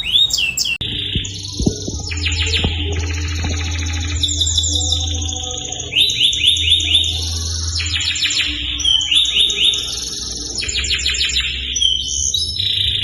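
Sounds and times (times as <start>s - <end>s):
canary singing trills: 0.0s - 13.0s
steady low hum: 0.7s - 13.0s.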